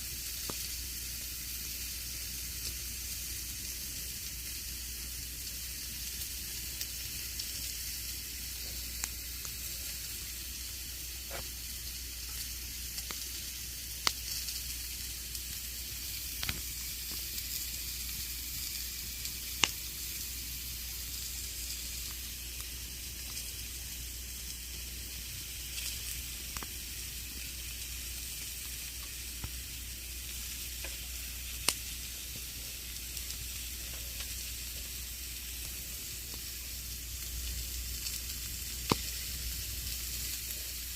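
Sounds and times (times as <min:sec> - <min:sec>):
campfire hissing: 0:00.0 - 0:40.9
fire crackles and pops: 0:00.0 - 0:40.9.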